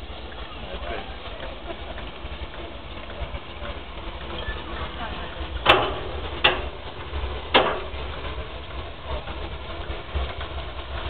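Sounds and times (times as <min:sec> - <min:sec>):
turntable rumbling: 0:00.0 - 0:11.0.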